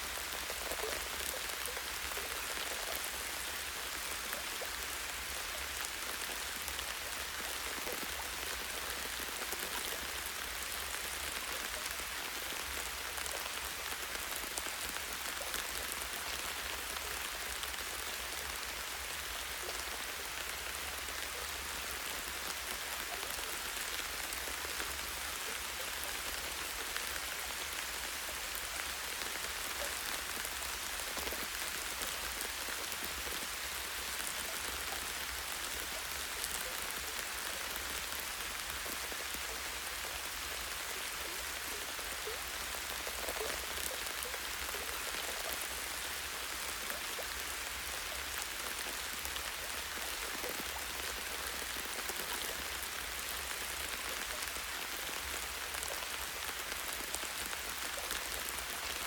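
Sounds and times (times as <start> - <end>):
rain pattering on foliage: 0.0 - 59.0.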